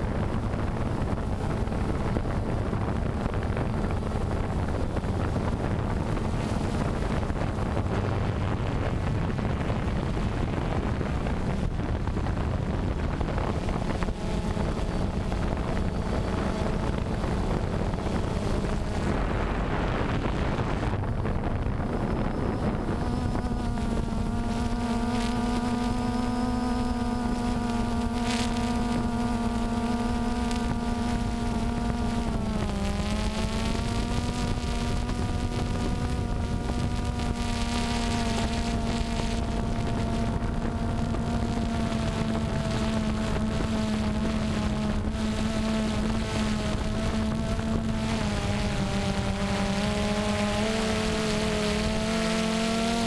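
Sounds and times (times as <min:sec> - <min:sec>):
drone propellers buzzing: 0:00.0 - 0:53.0
wind on microphone: 0:00.0 - 0:53.0.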